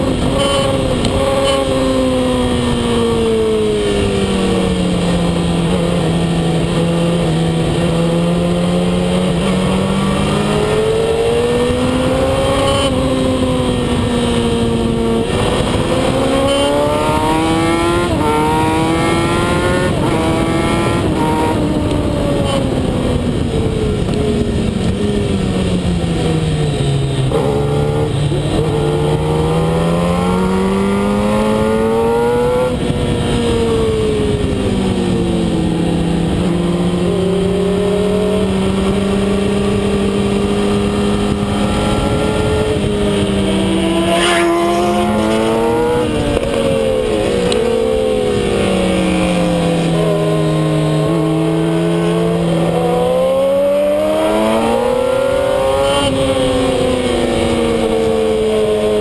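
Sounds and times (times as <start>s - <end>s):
motorcycle engine revving through gears: 0.0s - 59.0s
wind rushing: 0.0s - 59.0s.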